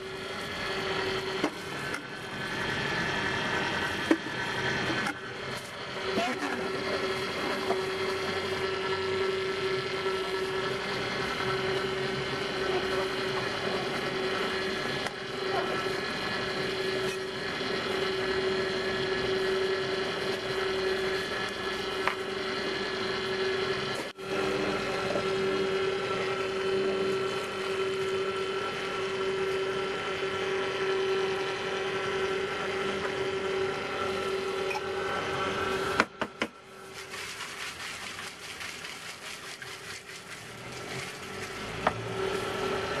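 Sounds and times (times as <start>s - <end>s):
juicer motor humming: 0.0s - 43.0s.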